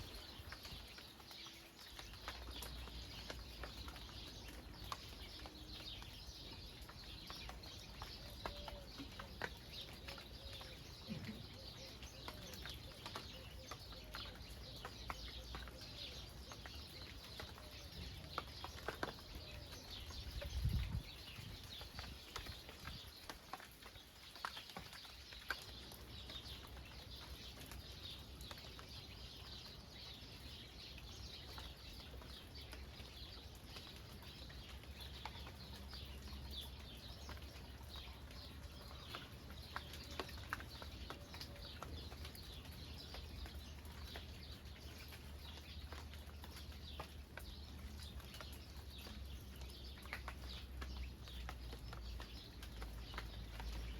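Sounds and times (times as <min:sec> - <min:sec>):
faint steady rain: 0:00.0 - 0:53.9
small birds chirping: 0:00.0 - 0:53.9.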